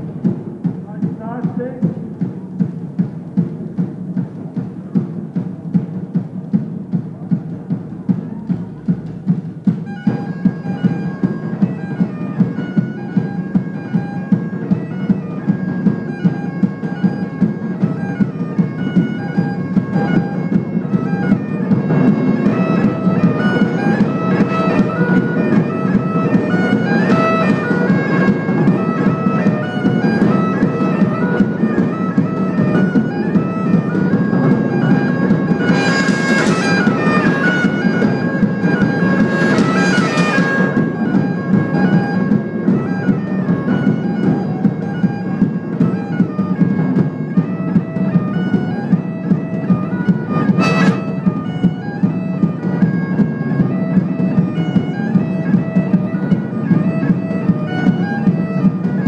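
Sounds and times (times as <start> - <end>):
barrel drums beating: 0.0 - 59.0
bagpipes playing melody: 9.8 - 59.0.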